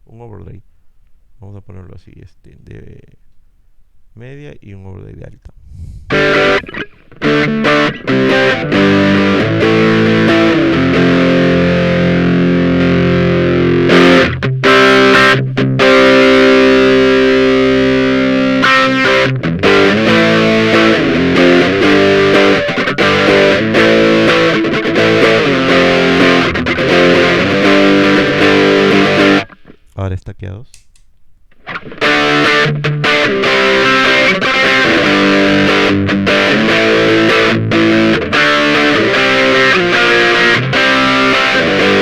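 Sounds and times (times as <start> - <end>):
distorted electric guitar: 6.1 - 29.9, 31.5 - 42.0.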